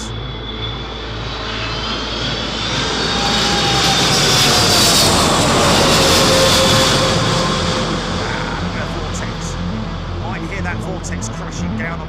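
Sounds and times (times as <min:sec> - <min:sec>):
jet airliner engines whining: 0:00.0 - 0:12.0.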